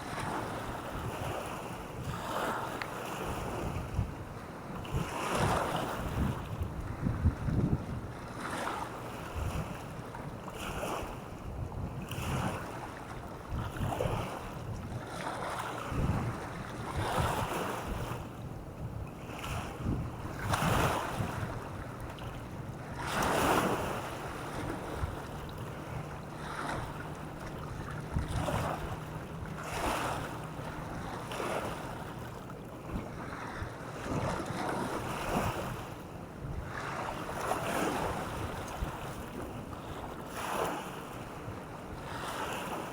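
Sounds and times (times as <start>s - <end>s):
waves washing on shore: 0.0s - 42.9s
wind buffeting microphone: 3.2s - 10.2s, 10.8s - 40.2s.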